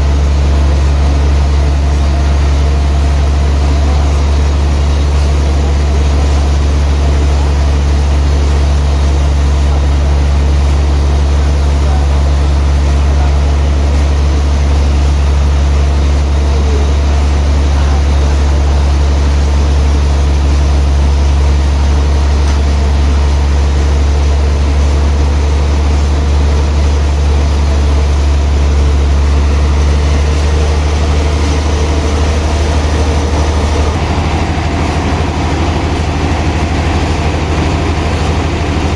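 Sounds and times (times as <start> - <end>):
sawmill machinery low hum: 0.0 - 38.9.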